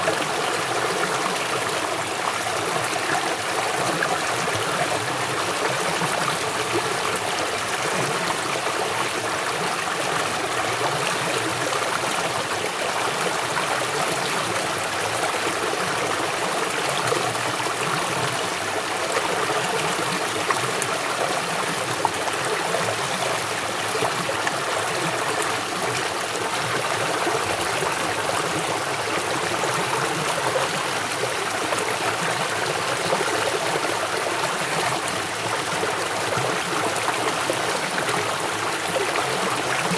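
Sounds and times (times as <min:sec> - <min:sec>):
river water rushing and gurgling: 0:00.0 - 0:39.9.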